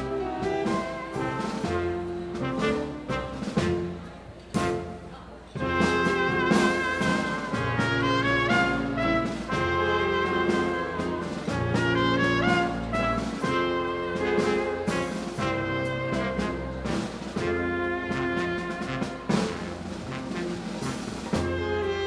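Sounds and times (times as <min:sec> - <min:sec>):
brass section chords: 0:00.0 - 0:22.0.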